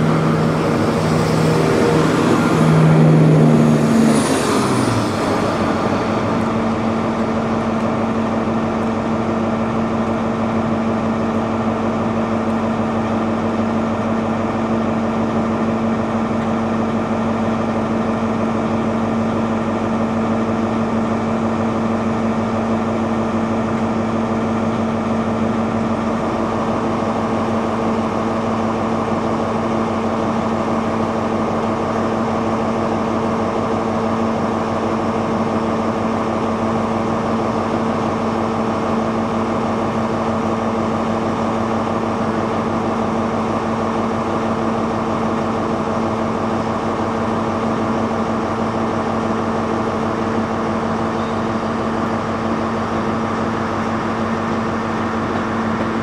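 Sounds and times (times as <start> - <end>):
diesel train engine idling: 0.0 - 56.0.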